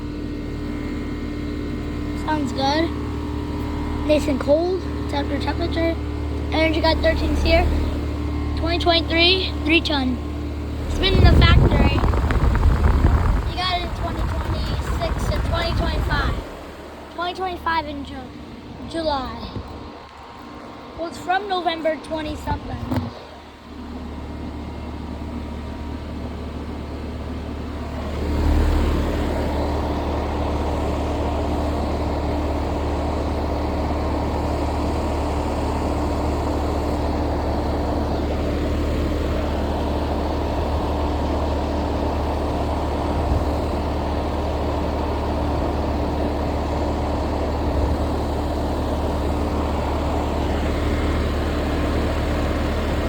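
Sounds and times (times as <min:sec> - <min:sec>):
air conditioner running: 0:00.0 - 0:53.0
steady mid-pitched hum: 0:00.0 - 0:53.0.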